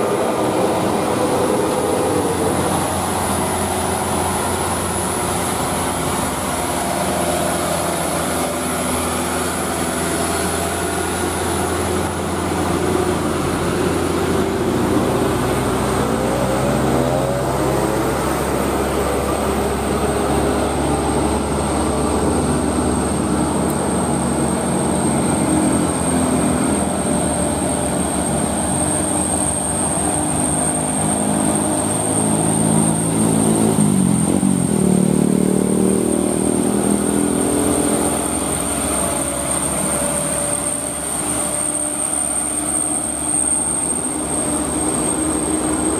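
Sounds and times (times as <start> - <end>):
diesel trucks driving past: 0.0 - 45.9.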